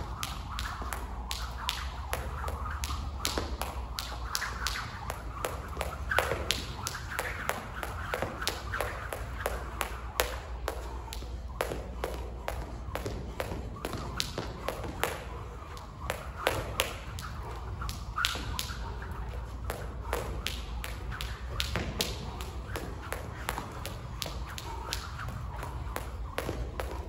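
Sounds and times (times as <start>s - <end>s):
jump rope slapping floor: 0.0s - 27.0s.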